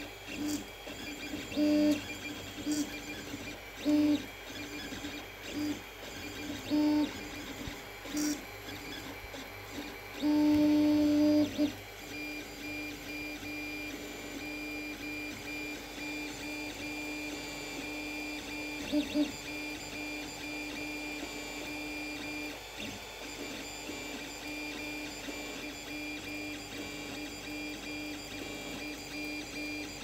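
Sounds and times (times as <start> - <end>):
cooling fans humming: 0.0 - 30.0.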